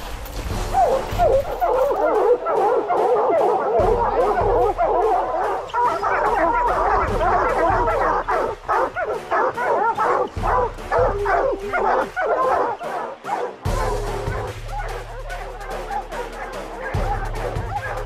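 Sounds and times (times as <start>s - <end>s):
hounds baying and barking: 0.3s - 18.0s.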